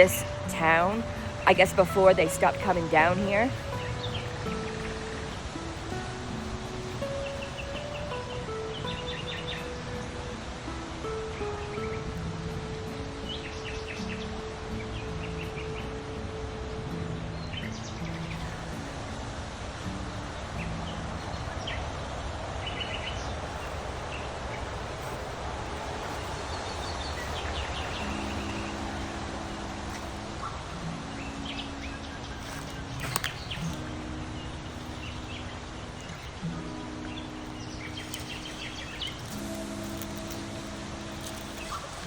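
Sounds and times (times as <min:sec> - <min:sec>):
small birds chirping: 0:00.0 - 0:16.2, 0:17.1 - 0:42.0
soft music of held chords: 0:00.0 - 0:42.0
steady outdoor hiss: 0:00.0 - 0:42.0.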